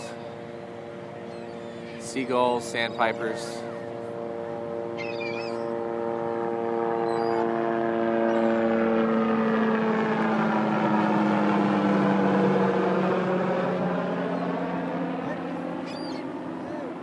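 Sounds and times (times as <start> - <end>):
engine droning hum passing: 0.0 - 17.0.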